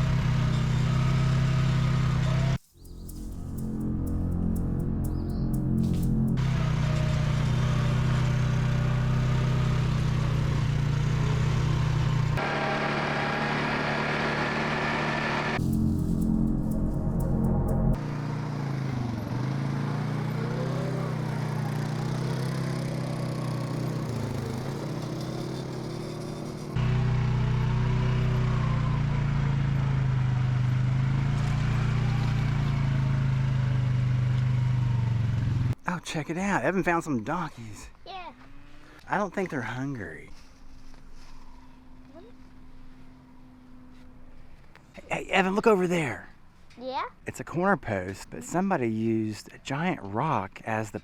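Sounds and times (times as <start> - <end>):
vehicle engine running: 0.0 - 46.7.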